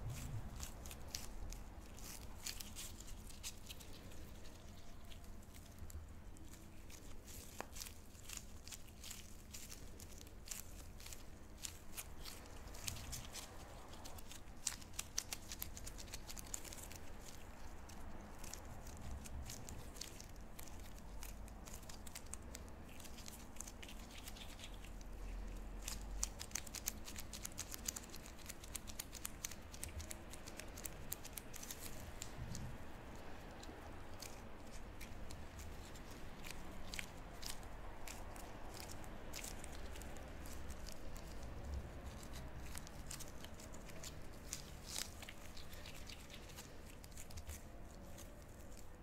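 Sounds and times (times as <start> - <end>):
gloves rubbing: 0.0 - 49.0.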